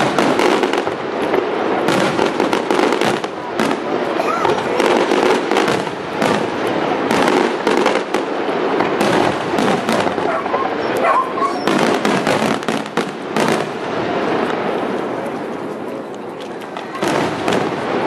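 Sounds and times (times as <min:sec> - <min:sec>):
fireworks bursting: 0:00.0 - 0:18.0
fireworks crackling: 0:00.0 - 0:18.0.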